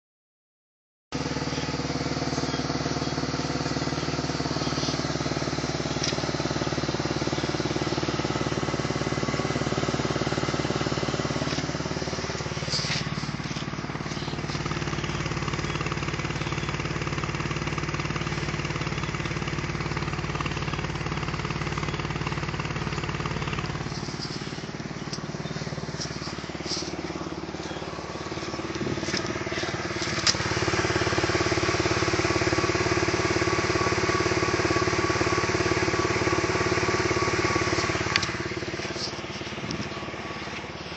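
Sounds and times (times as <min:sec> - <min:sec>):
car engine idling: 0:01.1 - 0:40.9.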